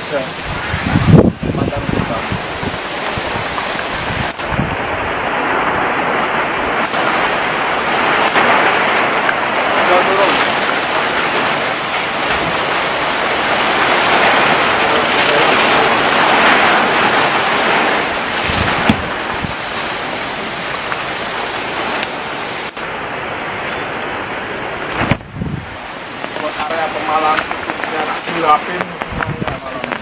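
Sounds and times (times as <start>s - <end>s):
heavy rain hissing: 0.0s - 30.0s.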